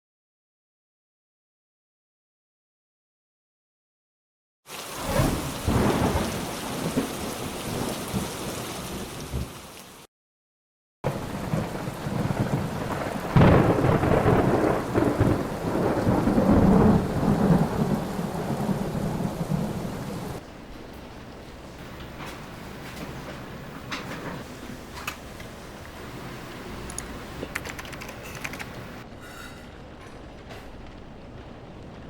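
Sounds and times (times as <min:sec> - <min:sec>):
heavy rain: 0:04.7 - 0:10.1, 0:11.1 - 0:32.0
rumbling thunder: 0:04.8 - 0:09.6, 0:11.1 - 0:32.0.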